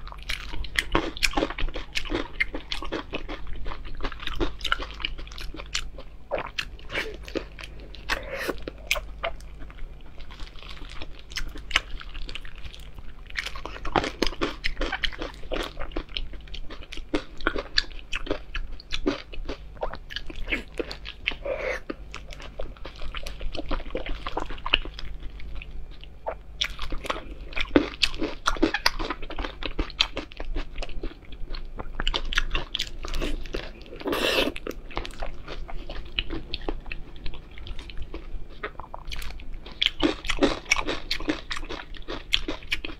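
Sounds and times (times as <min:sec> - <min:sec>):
biting and chewing food: 0:00.0 - 0:42.9.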